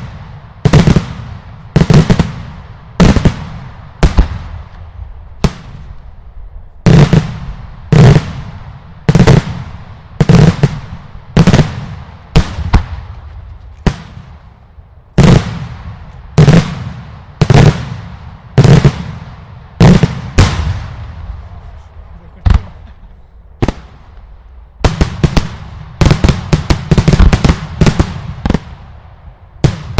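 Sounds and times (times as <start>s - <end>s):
fireworks bangs with echo: 0.0s - 6.1s, 6.8s - 23.0s, 23.6s - 29.9s.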